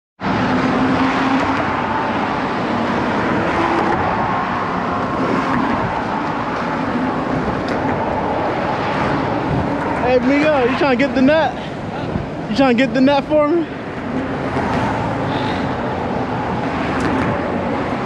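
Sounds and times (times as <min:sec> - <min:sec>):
road traffic hum: 0:00.2 - 0:18.0.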